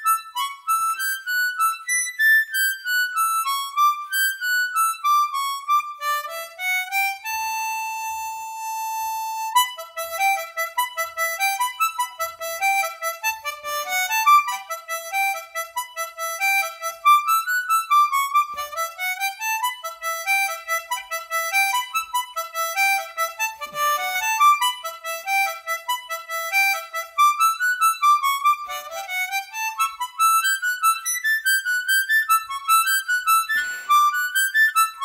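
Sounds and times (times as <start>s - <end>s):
harmonica playing a quick melody: 0.0s - 35.0s.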